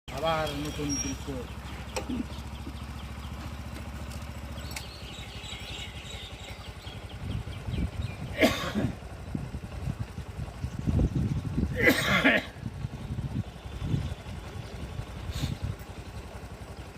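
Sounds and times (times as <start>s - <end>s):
small engine running: 0.1s - 16.9s.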